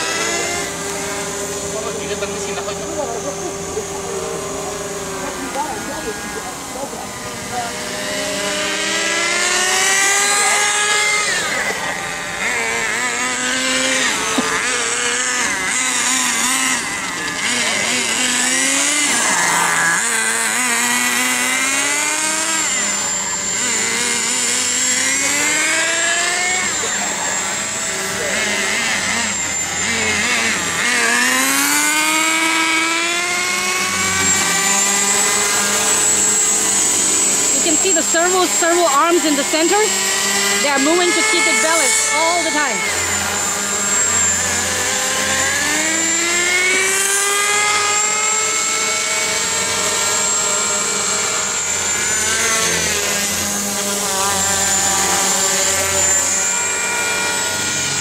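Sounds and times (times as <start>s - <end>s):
rc helicopter rotors whining: 0.0s - 58.0s.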